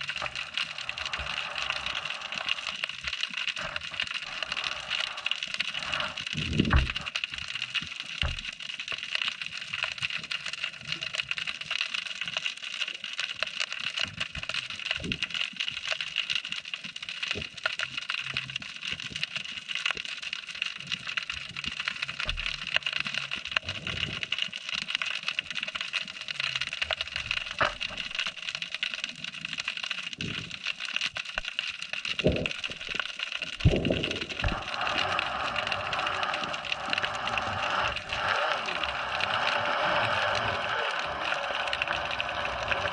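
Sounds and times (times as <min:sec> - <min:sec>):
snapping shrimp clicks underwater: 0:00.0 - 0:42.9.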